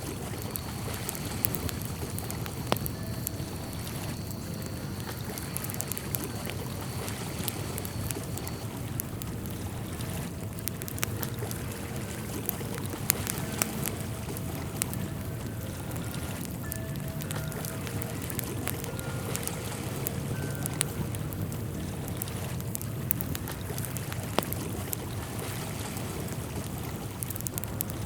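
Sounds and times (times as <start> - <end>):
running water rushing: 0.0 - 28.0
sharp ticks and drips: 0.0 - 28.0.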